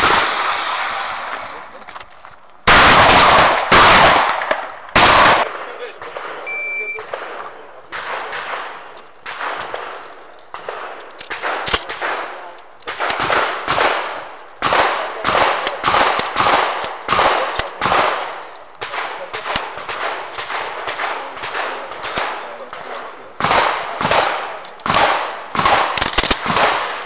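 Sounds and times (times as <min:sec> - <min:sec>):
shotgun shots: 0:00.0 - 0:01.8, 0:02.6 - 0:27.0.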